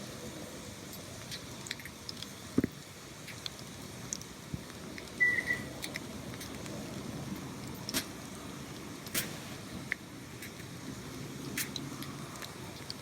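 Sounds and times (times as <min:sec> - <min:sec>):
drips and splashes: 0:00.6 - 0:13.0.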